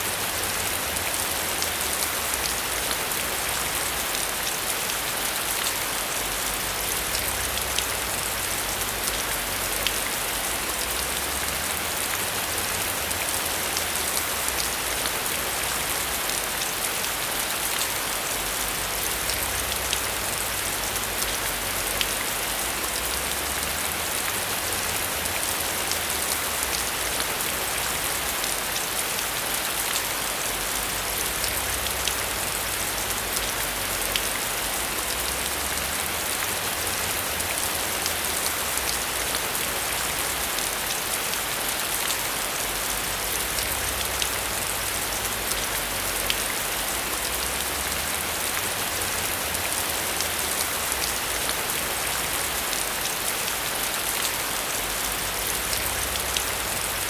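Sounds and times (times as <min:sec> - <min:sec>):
heavy rain on a metal roof: 0:00.0 - 0:57.0.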